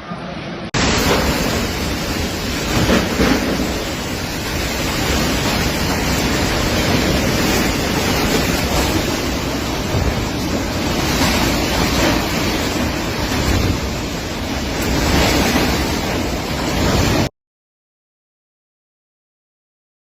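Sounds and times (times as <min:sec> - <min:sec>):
strong storm wind: 0:00.6 - 0:17.3.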